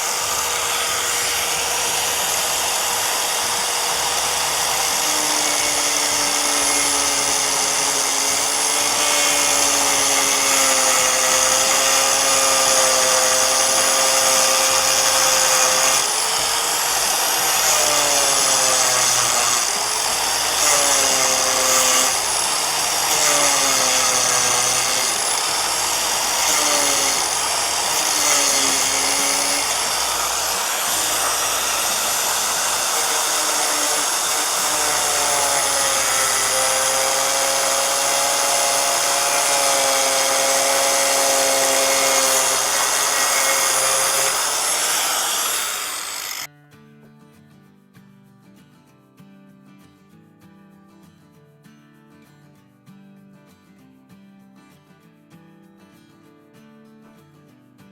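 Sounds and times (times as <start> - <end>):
angle grinder cutting plastic: 0.0 - 46.5.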